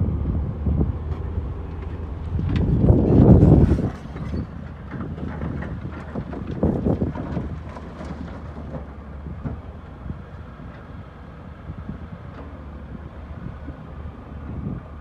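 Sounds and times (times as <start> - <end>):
low diesel engine drone: 0.0 - 15.0.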